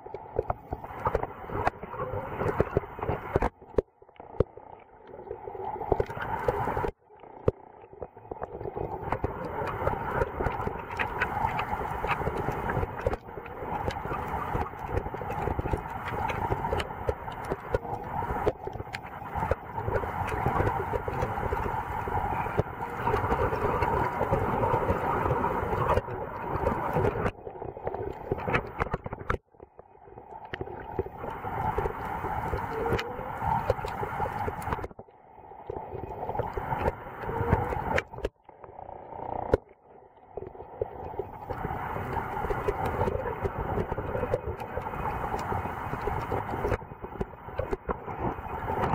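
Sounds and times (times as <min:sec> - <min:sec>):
small underwater clicks and knocks: 0:00.0 - 0:48.9
underwater rush of water: 0:00.0 - 0:48.9.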